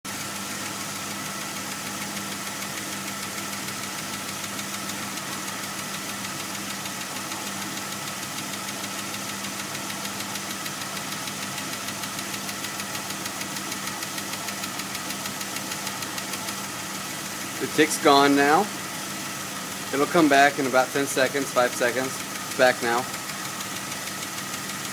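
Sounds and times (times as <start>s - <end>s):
car engine idling: 0.1s - 24.9s
fast even engine ticking: 0.1s - 24.9s.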